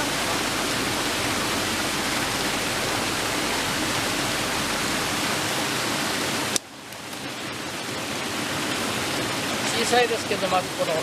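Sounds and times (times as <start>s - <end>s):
rushing stream water: 0.0s - 11.0s.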